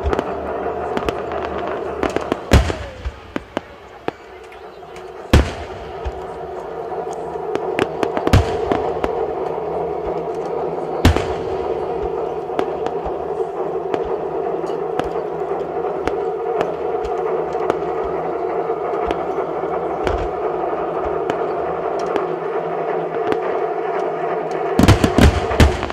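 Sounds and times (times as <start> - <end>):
background rumble: 0.0 - 25.9
firework booms: 0.0 - 25.9
firework pops and crackles: 0.0 - 25.9.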